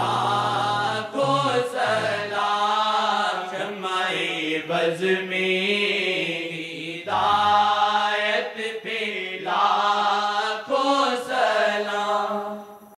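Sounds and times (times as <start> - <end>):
voices singing devotional song: 0.0 - 13.0.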